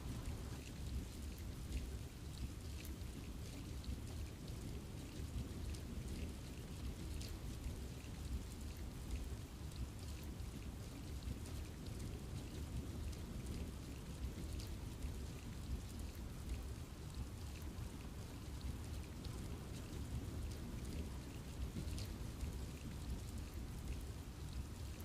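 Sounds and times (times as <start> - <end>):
constant low rumble: 0.0 - 25.0
rain falling on trees: 0.0 - 25.0.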